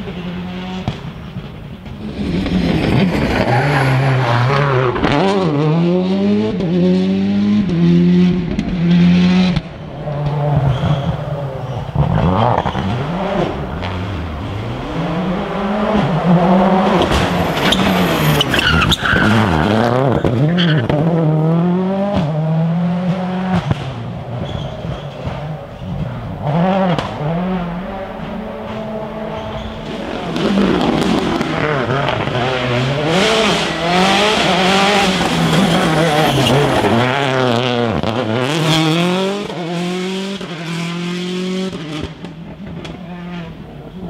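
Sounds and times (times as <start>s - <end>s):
rally car engines racing: 0.0s - 44.0s.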